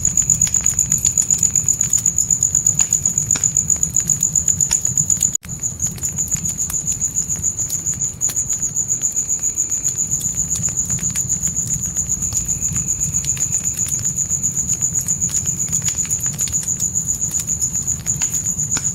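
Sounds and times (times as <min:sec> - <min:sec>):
crickets chirping: 0:00.0 - 0:18.9
fire crackling and popping: 0:00.0 - 0:18.9
low rumble of flames: 0:00.0 - 0:18.9.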